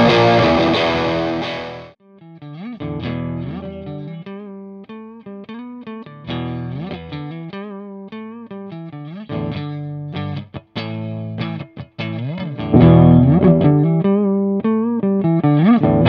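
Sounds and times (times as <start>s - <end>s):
overdriven electric guitar riff: 0.0s - 16.0s.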